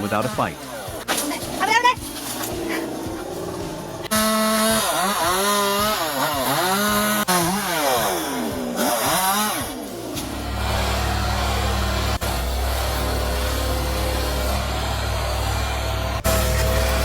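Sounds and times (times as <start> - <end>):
chainsaw engine revving: 0.0 - 17.0
low engine drone: 0.6 - 7.5, 9.6 - 17.0.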